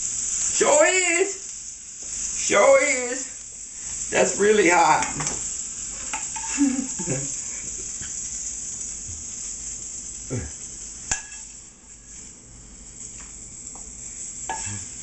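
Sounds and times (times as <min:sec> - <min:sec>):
chicken sizzling in a skillet: 0:00.0 - 0:15.0.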